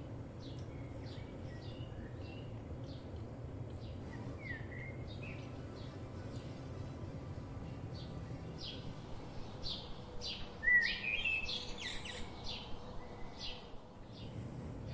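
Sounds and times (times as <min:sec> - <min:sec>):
bird chirping: 0:00.4 - 0:14.9.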